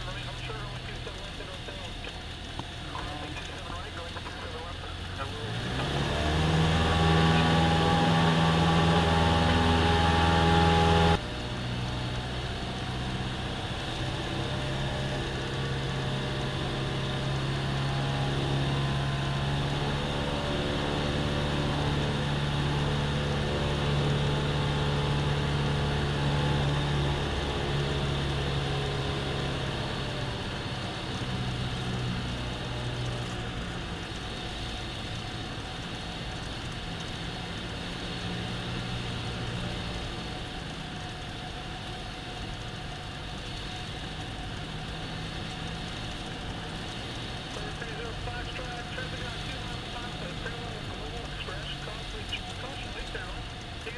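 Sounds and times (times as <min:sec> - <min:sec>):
airplane engine and propeller running: 0:00.0 - 0:53.9.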